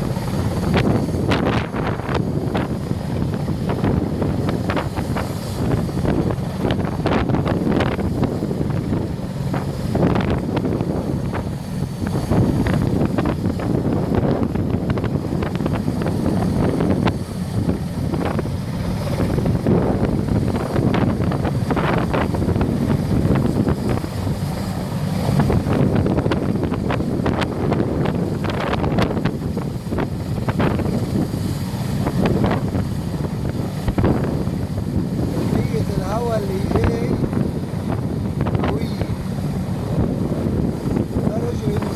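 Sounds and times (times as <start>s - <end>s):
helicopter taking off: 0.0s - 41.9s
rotor downwash buffeting microphone: 0.0s - 41.9s.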